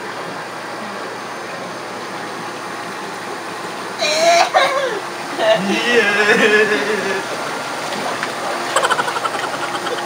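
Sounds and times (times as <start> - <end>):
whirlpool tub bubbling water: 0.0 - 10.0.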